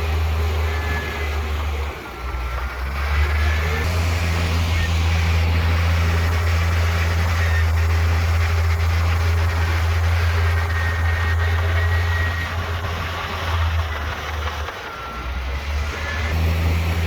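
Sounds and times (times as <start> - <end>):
diesel machinery low drone: 0.0 - 17.0.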